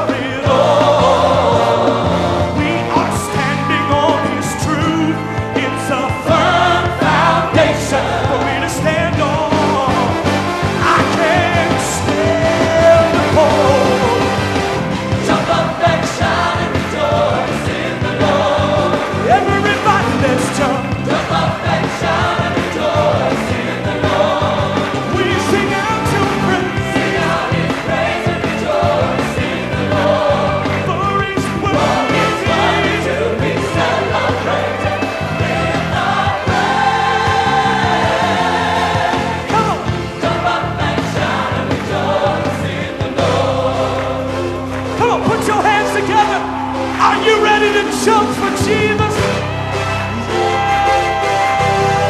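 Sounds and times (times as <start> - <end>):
gospel band playing: 0.0 - 52.0
singers with a choir: 0.0 - 52.0.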